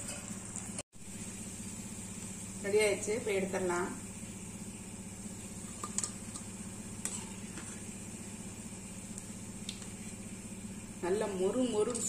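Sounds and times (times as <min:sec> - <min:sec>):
food sizzling in hot oil: 0:00.0 - 0:11.0
steady low hum: 0:00.0 - 0:12.0.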